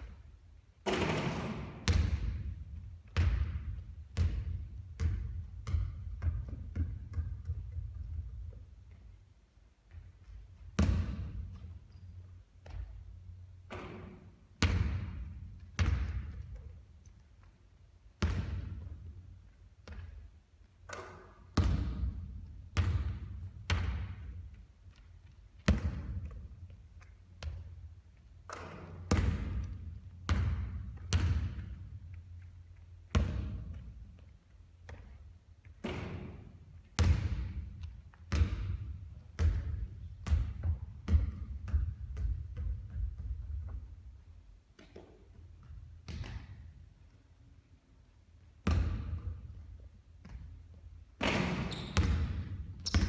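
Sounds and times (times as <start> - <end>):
basketballs bouncing on court: 0.8 - 8.9, 9.9 - 11.8, 12.6 - 17.2, 18.2 - 25.0, 25.6 - 44.0, 44.8 - 46.6, 48.6 - 53.0.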